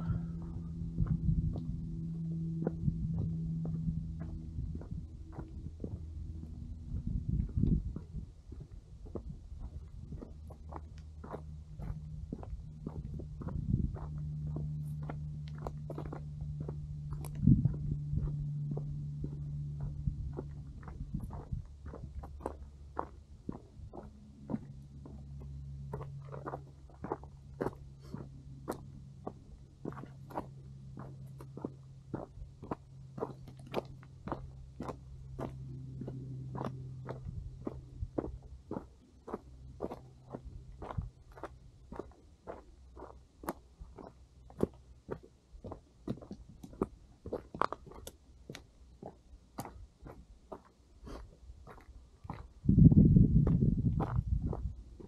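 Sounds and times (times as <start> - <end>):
footsteps crunching on rocky dirt: 0.0 - 55.0
low steady hum: 0.0 - 55.0.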